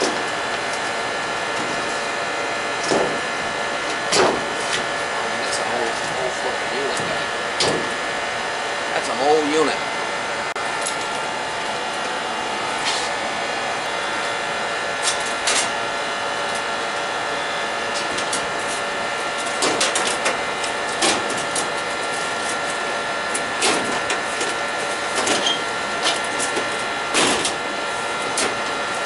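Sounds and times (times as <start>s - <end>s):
gas heater humming: 0.0s - 29.0s.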